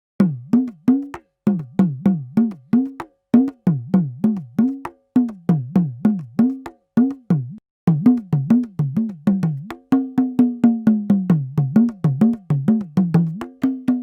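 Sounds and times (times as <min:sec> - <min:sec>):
pitch-bending hand drum: 0:00.2 - 0:14.0.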